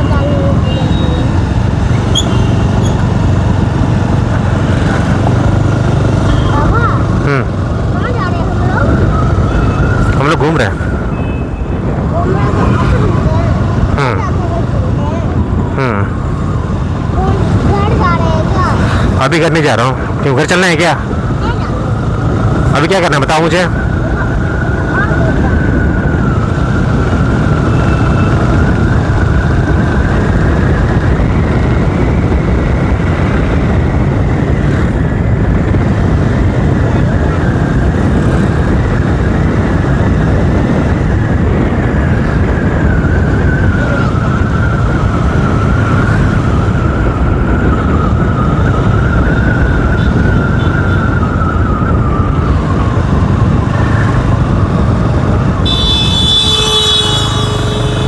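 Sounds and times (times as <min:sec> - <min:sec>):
motorcycle engine: 0:00.0 - 0:58.0
wind rushing on microphone: 0:00.0 - 0:58.0.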